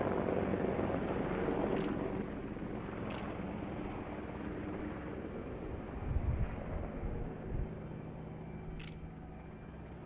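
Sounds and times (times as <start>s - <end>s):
helicopter rotor and engine drone: 0.0s - 10.0s.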